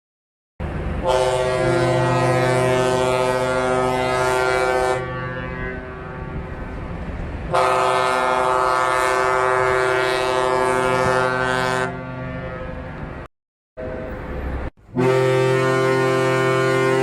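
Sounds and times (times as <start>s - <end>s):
ship's horn blast: 1.0s - 6.7s, 7.5s - 13.2s, 13.8s - 17.0s.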